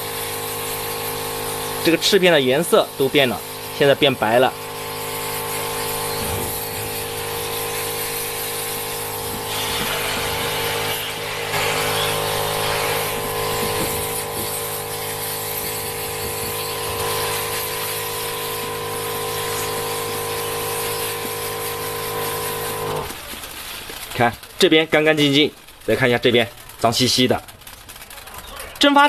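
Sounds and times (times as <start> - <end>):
water jet hissing on metal fins: 0.0 - 24.3
pressure washer motor hum: 0.0 - 25.5.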